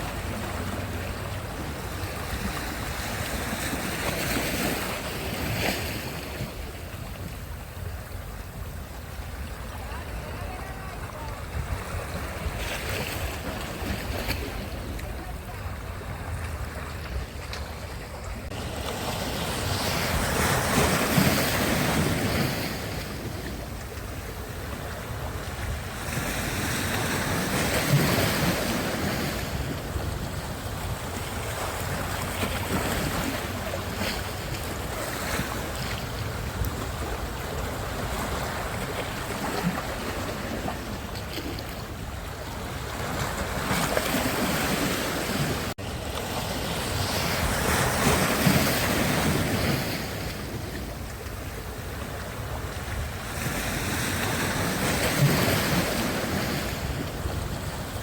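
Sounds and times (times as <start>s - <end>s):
waves breaking: 0.0s - 58.0s
wind rumbling on microphone: 0.0s - 58.0s.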